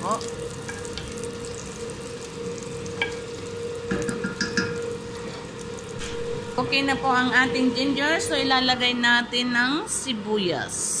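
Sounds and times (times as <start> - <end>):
ginger sizzling in butter: 0.0 - 8.9
steady hum: 0.2 - 11.0.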